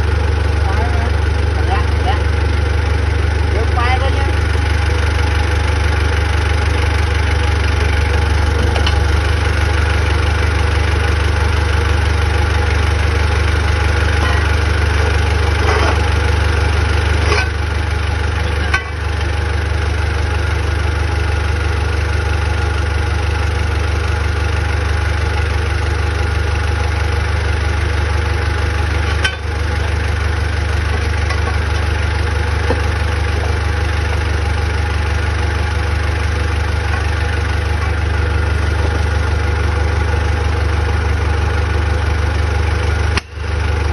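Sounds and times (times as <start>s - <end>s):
heavy machinery engine idling: 0.0s - 43.9s.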